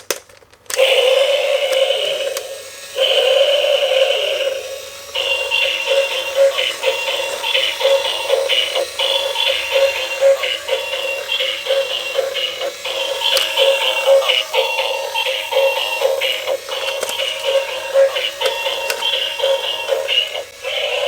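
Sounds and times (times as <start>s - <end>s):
tinny electronic toy tune: 0.8s - 21.0s.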